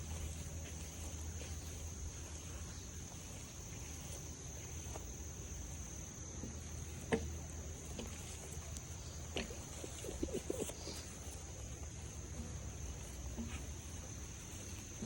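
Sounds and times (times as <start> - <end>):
faint ticks: 0.0 - 15.0
high-pitched insect chorus: 0.0 - 15.0.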